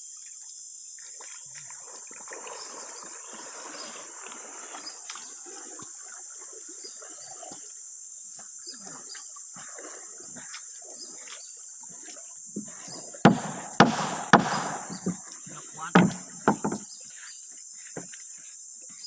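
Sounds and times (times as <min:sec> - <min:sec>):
insects droning high pitch: 0:00.0 - 0:19.0
water trickling and splashing: 0:00.0 - 0:19.0.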